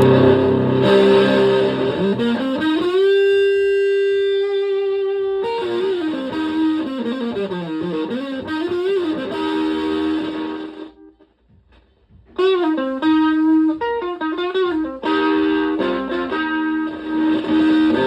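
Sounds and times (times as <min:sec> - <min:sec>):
fuzzed electric guitar: 0:00.0 - 0:18.0.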